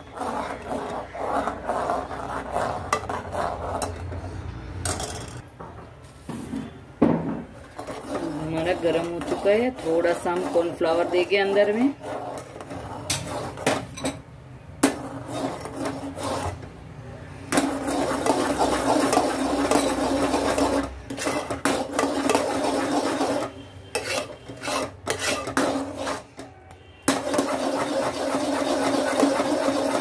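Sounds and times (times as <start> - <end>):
metal spoon scraping a pot: 0.0 - 5.4, 7.6 - 14.2, 14.8 - 16.7, 17.5 - 30.0.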